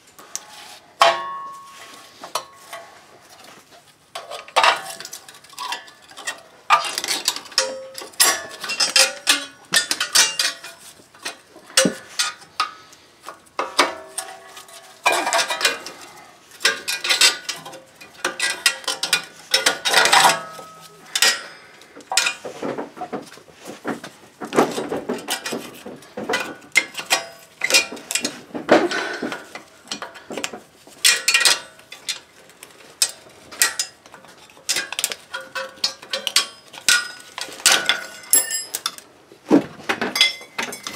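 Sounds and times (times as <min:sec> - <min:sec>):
metal tools clinking and scraping: 0:00.2 - 0:23.9, 0:24.6 - 0:39.1, 0:40.1 - 0:40.9.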